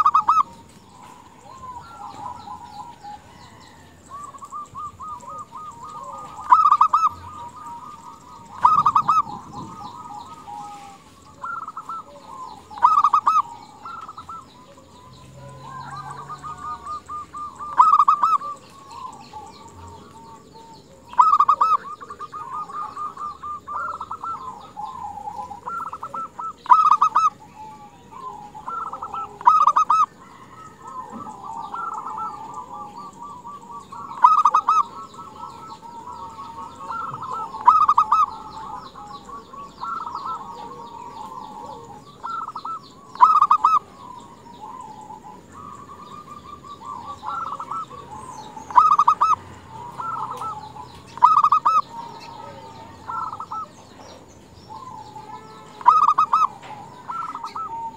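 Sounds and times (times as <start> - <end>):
dove cooing: 0.0 - 57.9.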